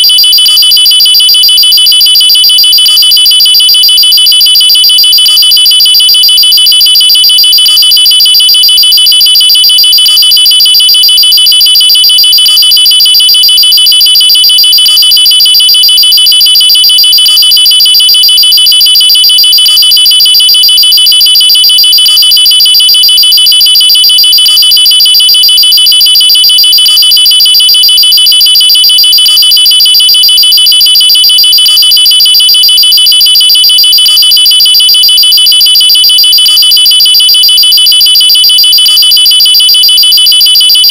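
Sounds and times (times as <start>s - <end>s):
shrill electronic alarm trilling: 0.0s - 40.9s.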